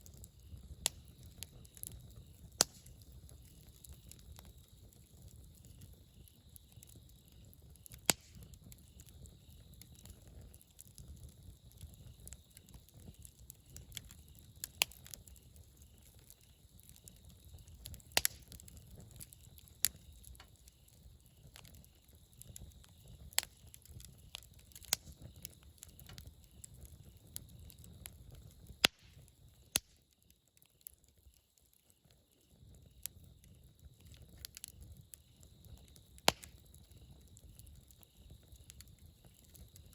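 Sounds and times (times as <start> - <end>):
campfire crackling pops: 0.0 - 39.9.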